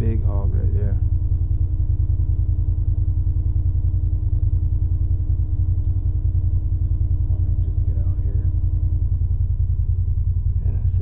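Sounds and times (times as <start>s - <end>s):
motor idling: 0.0s - 11.0s.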